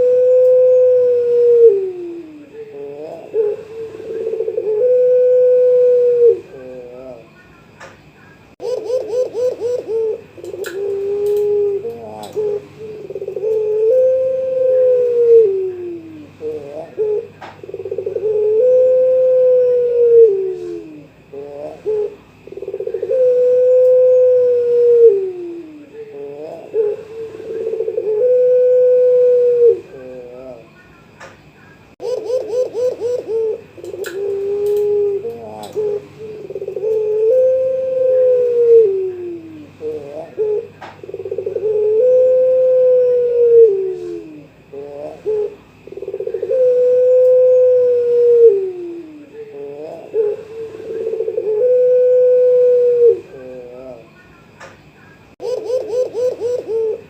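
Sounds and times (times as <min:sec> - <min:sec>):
dove cooing: 0:00.0 - 0:07.4, 0:08.5 - 0:30.8, 0:32.0 - 0:54.2, 0:55.3 - 0:57.0.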